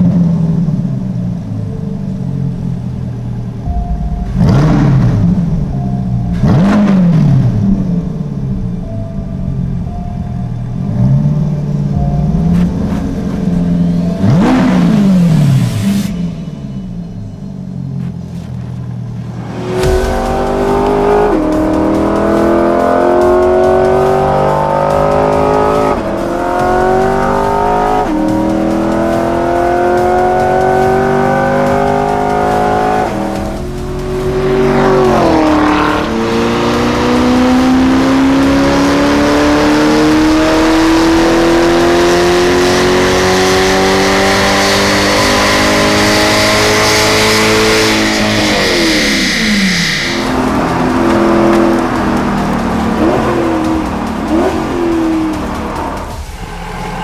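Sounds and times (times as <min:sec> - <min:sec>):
sports car engine accelerating: 0:00.0 - 0:57.0.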